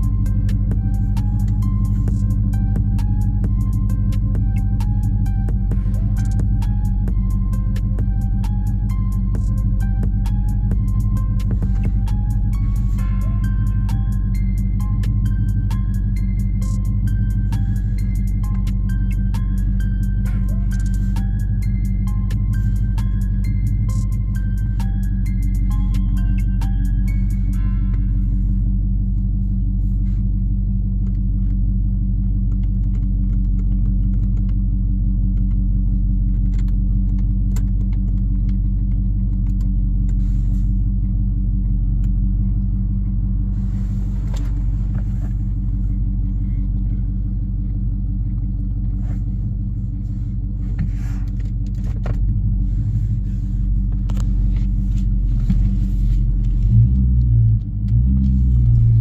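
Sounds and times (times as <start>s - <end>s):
car exhaust rumbling: 0.0s - 59.0s.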